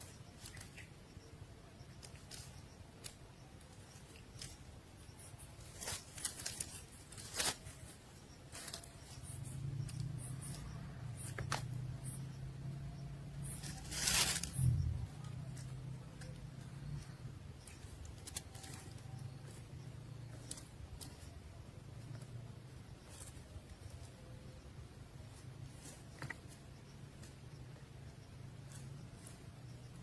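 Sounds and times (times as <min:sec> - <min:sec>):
low steady hum: 0:00.0 - 0:30.0
nestlings rustling and scratching: 0:00.0 - 0:30.0.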